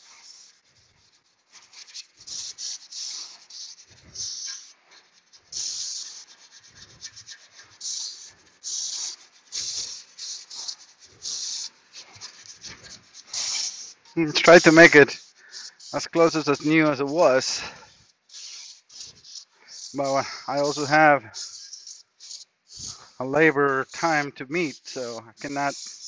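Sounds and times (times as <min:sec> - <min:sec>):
brush scrubbing metal: 0:00.0 - 0:26.0.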